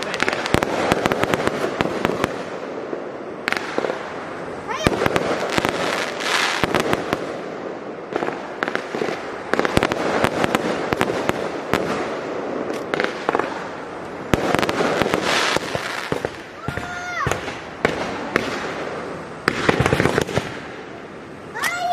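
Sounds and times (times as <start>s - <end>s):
fireworks bangs: 0.0s - 21.9s
fireworks crackle: 0.0s - 21.9s.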